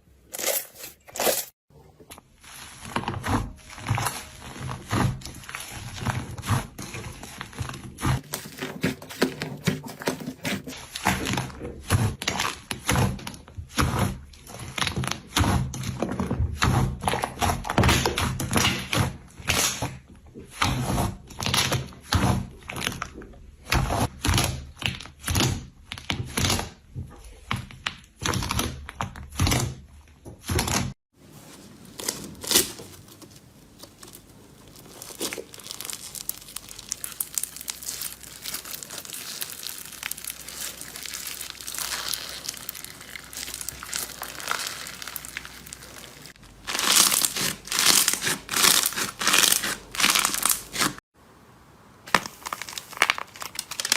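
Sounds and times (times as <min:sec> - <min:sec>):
slime crackling and crinkling: 0:00.2 - 0:29.6, 0:30.5 - 0:51.1, 0:52.0 - 0:53.9.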